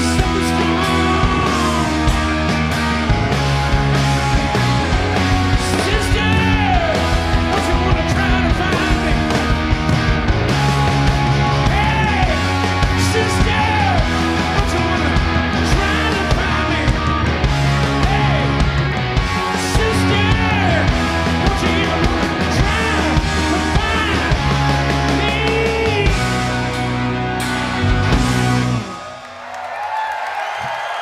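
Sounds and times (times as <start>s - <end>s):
steady drum beats: 0.0s - 29.0s
live rock band playing: 0.0s - 29.2s.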